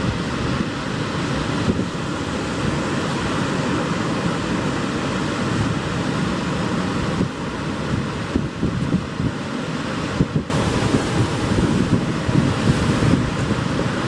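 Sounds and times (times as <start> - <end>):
wind buffeting microphone: 0.0 - 3.1, 5.3 - 14.0
waves washing onto rocky shore: 0.0 - 8.4, 9.2 - 14.0.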